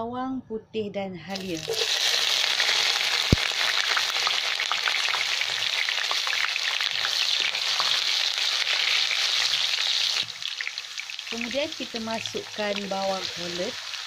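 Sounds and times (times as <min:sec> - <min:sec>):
garlic sizzling in hot oil: 0:01.4 - 0:14.0.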